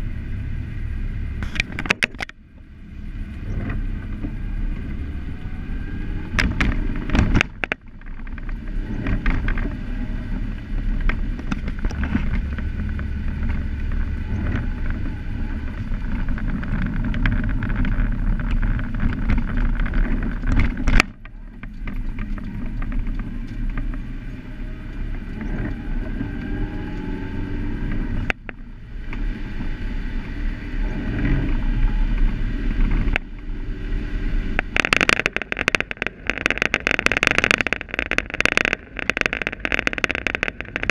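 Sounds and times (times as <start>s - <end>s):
rattling and clicking in car: 0.0s - 33.5s, 34.2s - 40.9s
engine and tyre rumble: 0.0s - 40.9s.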